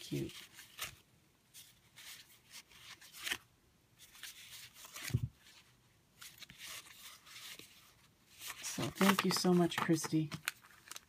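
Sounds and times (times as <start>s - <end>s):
paper cards rustling: 0.0s - 11.0s.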